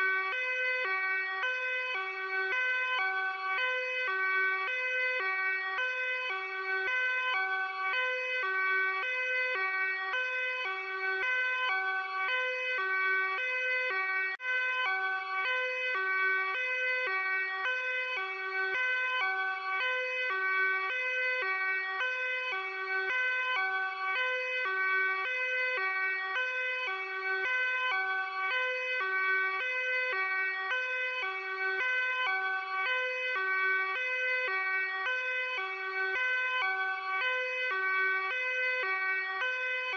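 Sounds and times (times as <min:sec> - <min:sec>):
two-tone police siren: 0:00.0 - 0:39.9.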